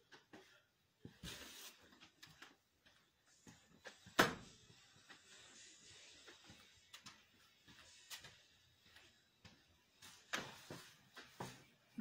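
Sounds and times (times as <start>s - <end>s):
footsteps indoors: 0.0s - 12.0s.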